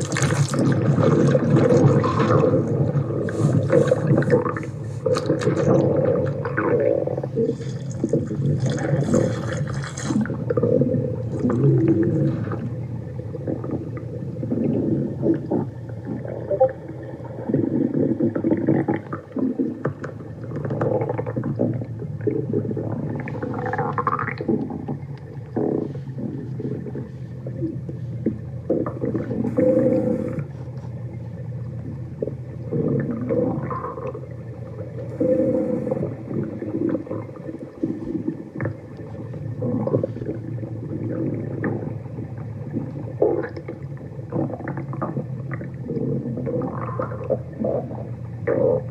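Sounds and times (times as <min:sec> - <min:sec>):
stomach growling and gurgling: 0:00.0 - 0:48.9.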